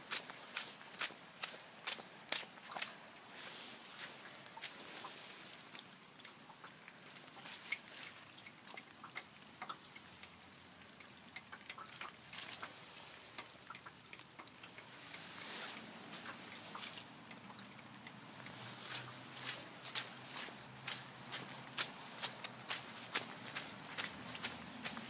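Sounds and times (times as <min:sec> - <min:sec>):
raindrops ticking: 0:00.0 - 0:25.0.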